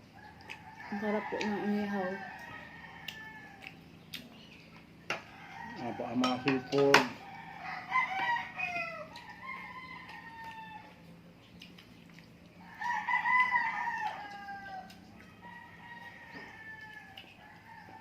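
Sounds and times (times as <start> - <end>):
rooster crowing: 0.2 - 3.7, 5.1 - 11.0, 12.6 - 18.0.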